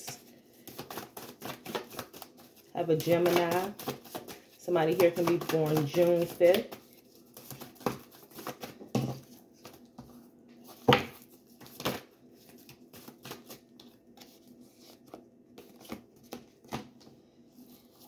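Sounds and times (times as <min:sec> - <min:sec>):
cards being shuffled: 0:00.6 - 0:16.8.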